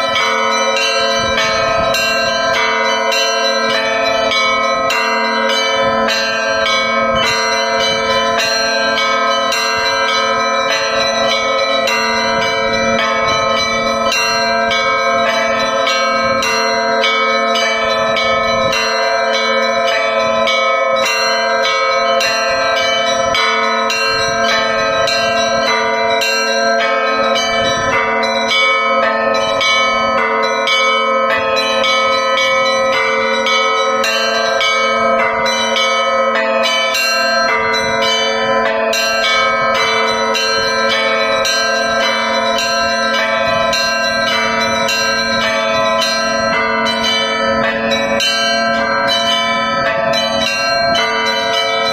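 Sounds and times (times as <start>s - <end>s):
large bells ringing low: 0.0s - 51.9s
small church bells ringing: 0.0s - 51.9s.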